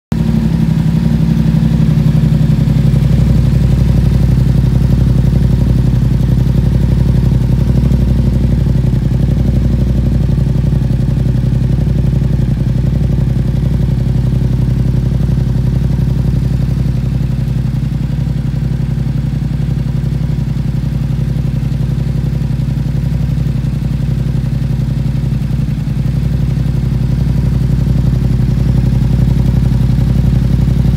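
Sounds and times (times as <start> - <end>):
motorcycle engine idling: 0.1 - 30.9.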